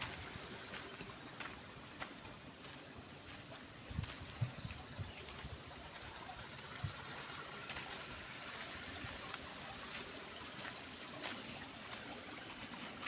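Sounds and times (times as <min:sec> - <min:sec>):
faint steady hiss: 0:00.0 - 0:13.0
footsteps on gravel: 0:00.0 - 0:13.0.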